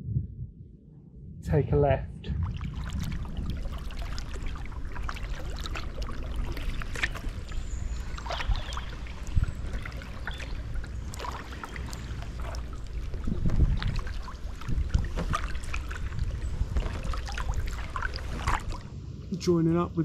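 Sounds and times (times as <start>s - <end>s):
low river rumble: 0.0s - 20.0s
paddle strokes splashing: 2.4s - 18.9s.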